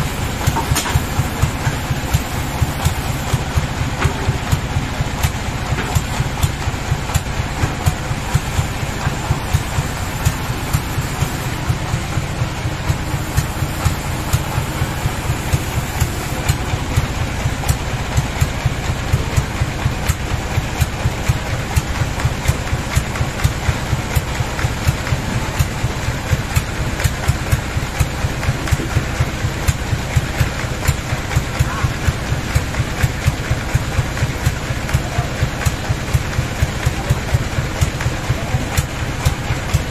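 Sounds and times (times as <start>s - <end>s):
band saw machinery drone: 0.0s - 39.9s.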